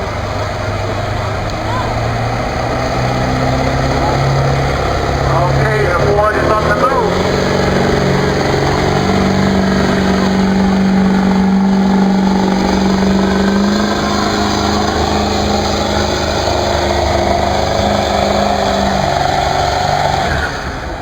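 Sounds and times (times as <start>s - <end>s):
pickup engine revving under load: 0.0s - 21.0s.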